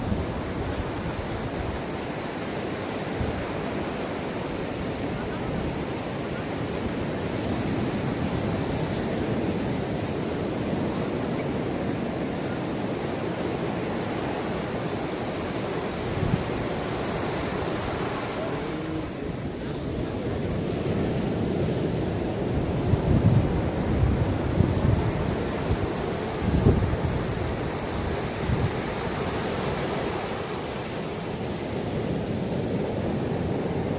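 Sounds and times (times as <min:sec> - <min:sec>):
ocean surf washing onto beach: 0:00.0 - 0:33.9.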